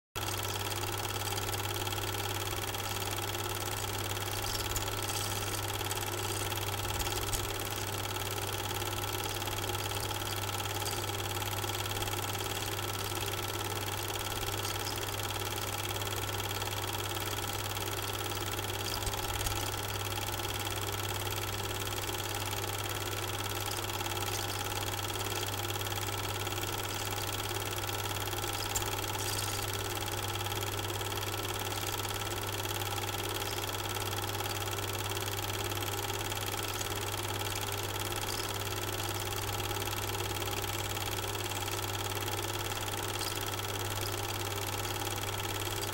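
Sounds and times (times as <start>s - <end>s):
film projector motor whirring: 0.2s - 45.9s.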